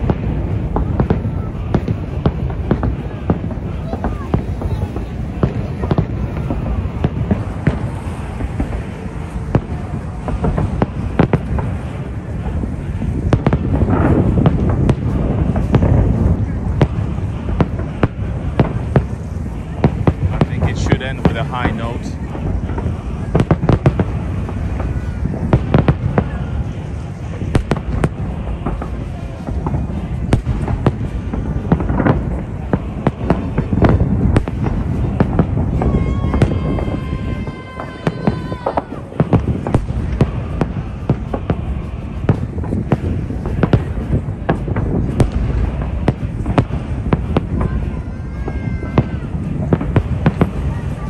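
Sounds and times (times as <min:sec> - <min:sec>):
fireworks bangs and pops: 0:00.0 - 0:51.0
fireworks crackling: 0:00.0 - 0:51.0
low rumble: 0:00.0 - 0:51.0.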